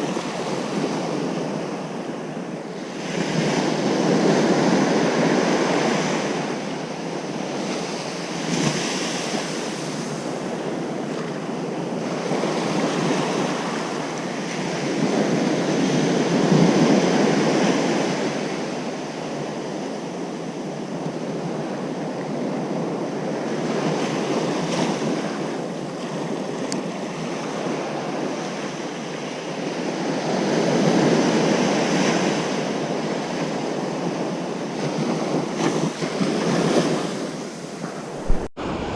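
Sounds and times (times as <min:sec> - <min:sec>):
ocean waves breaking: 0:00.0 - 0:38.9
wind noise on microphone: 0:00.0 - 0:38.9.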